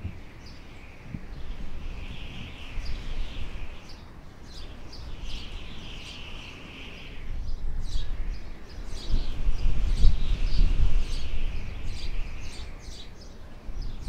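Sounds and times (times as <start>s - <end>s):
small birds chirping: 0.0s - 14.0s
steady high-pitched hiss: 0.0s - 14.0s.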